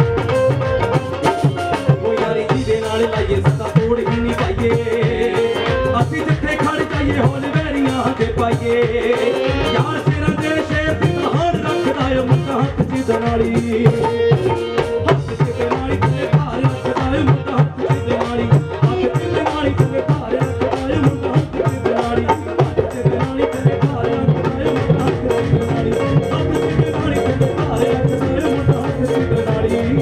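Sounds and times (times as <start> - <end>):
fast loud drum beat: 0.0 - 30.0
keyboard melody: 0.0 - 30.0.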